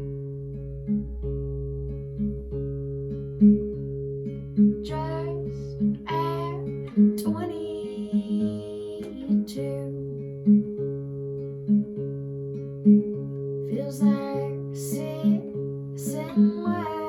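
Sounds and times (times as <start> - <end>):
acoustic guitar playing slowly: 0.0 - 17.0.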